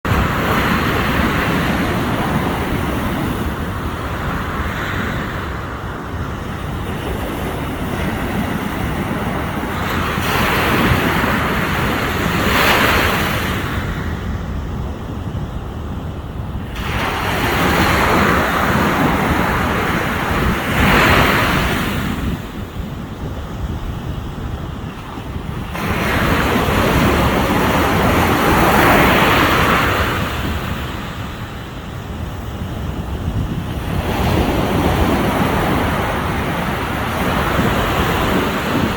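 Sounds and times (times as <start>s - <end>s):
waves breaking on a beach: 0.1s - 38.9s.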